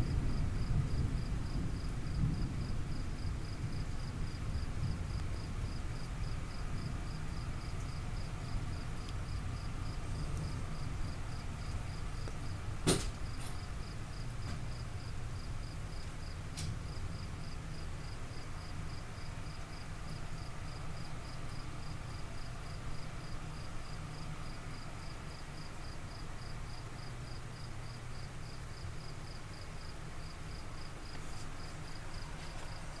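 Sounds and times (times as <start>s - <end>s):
crickets chirping: 0.0s - 33.0s
low background rumble: 0.0s - 33.0s.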